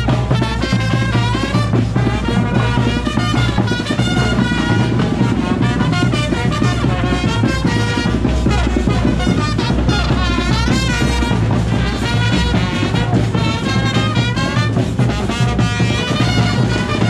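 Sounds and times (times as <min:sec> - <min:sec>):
bass drum pounding beat: 0:00.0 - 0:17.0
brass band playing dance music: 0:00.0 - 0:17.0.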